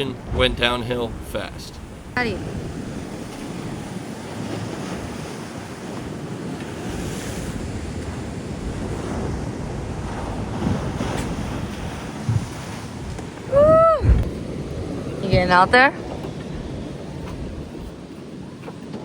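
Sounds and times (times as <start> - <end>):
ocean waves and surf: 0.0 - 19.0
wind buffeting microphone: 0.0 - 19.0.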